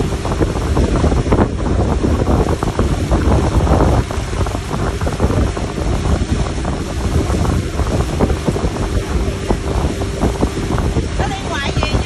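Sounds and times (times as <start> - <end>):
boat wake rushing: 0.0 - 12.0
motorboat engine running: 0.0 - 12.0
wind buffeting microphone: 0.0 - 12.0.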